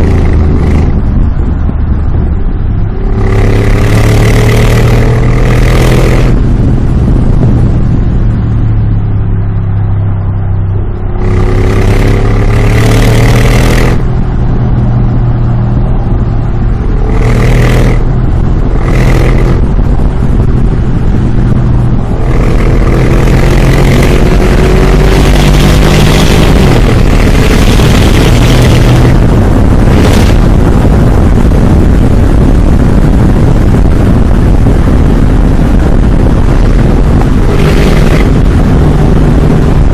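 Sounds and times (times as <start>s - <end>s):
loud engine revving: 0.0s - 1.1s, 2.8s - 8.7s, 10.9s - 39.9s.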